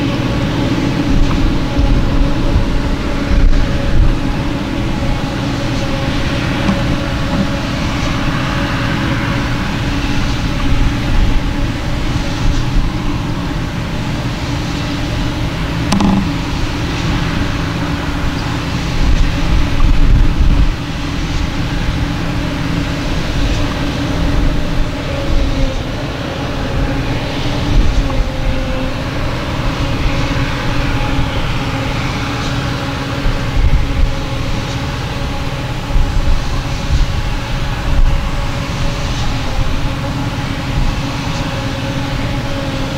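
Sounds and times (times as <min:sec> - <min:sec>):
diesel machinery rumbling: 0:00.0 - 0:42.9.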